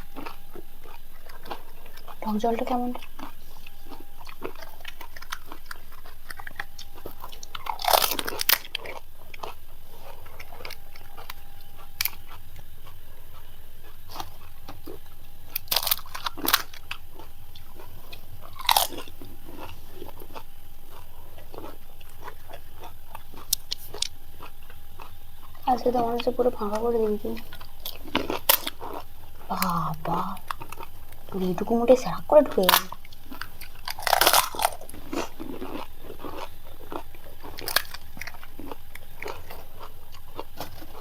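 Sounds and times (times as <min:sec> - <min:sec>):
crunchy snack chewing: 0:00.0 - 0:41.0.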